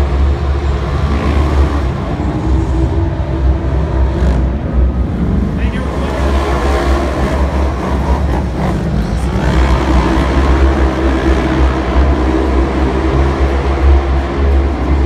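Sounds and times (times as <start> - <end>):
off-road racer engines rumbling: 0.0 - 15.0.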